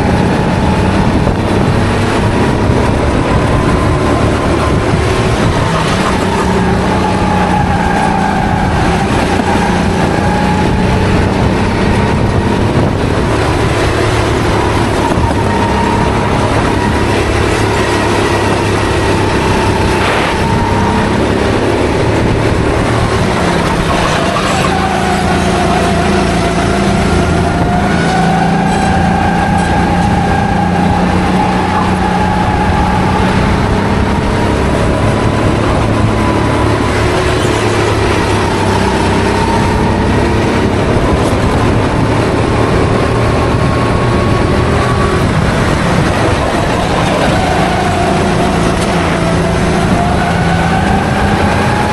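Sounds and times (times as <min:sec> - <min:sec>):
kart engine at race pace: 0:00.0 - 0:51.9.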